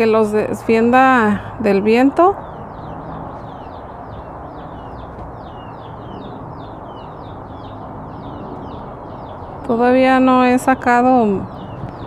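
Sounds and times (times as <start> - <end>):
small bird chirping: 1.6 - 12.0.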